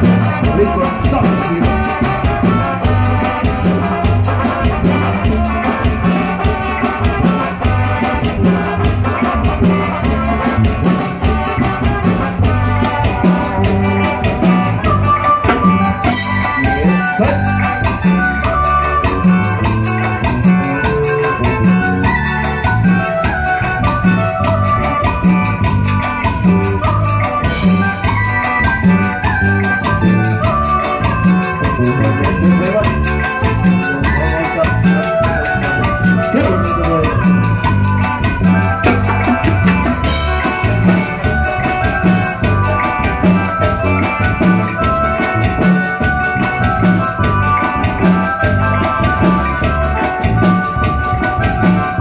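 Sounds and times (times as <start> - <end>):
live band playing latin dance music: 0.0 - 52.0.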